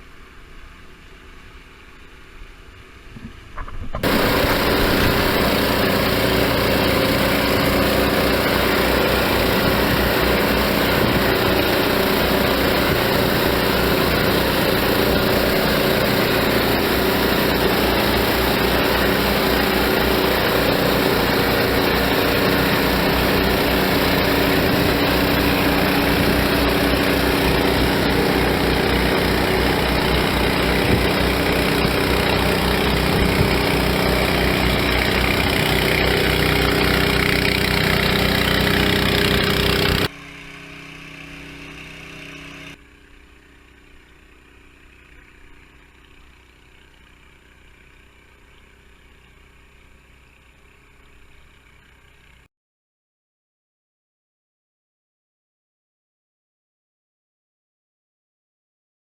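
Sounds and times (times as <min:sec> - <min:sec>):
engine running steadily: 0:03.6 - 0:52.5.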